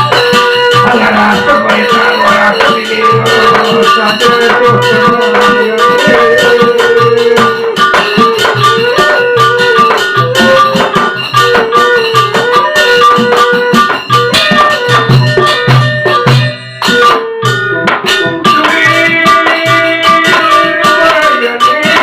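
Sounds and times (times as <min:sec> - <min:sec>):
gamelan ensemble playing: 0:00.0 - 0:22.0.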